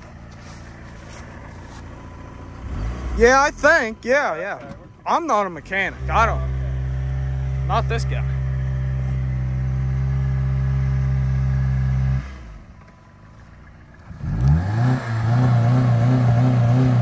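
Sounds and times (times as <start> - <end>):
car engine revving: 0.0 - 17.0
car engine running and idling: 0.0 - 17.0.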